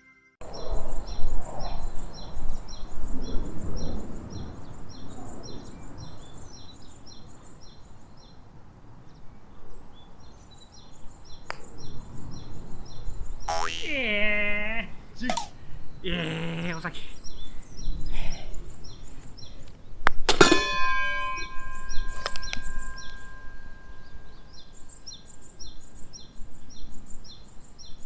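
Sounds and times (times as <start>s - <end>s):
bird chirping: 0.4s - 20.0s, 20.7s - 28.0s.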